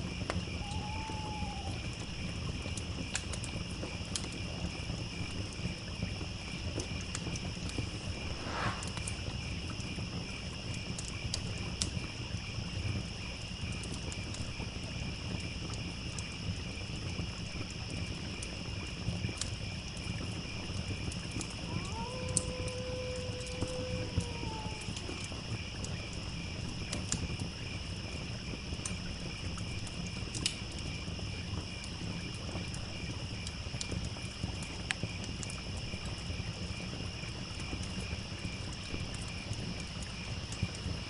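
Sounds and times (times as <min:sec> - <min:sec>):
campfire crackling and popping: 0:00.0 - 0:41.0
crickets chirping: 0:00.0 - 0:41.0.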